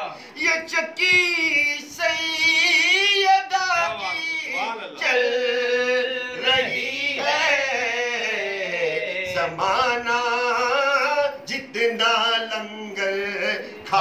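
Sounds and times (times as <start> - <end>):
men singing unaccompanied: 0.0 - 14.0.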